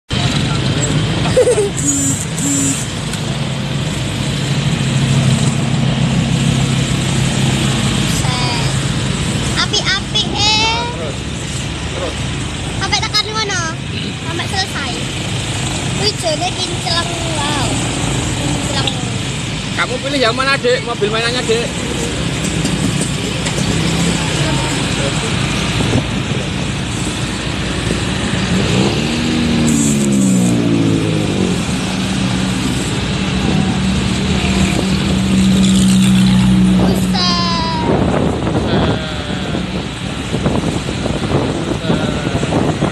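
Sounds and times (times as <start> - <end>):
traffic engines humming: 0.1 - 42.9.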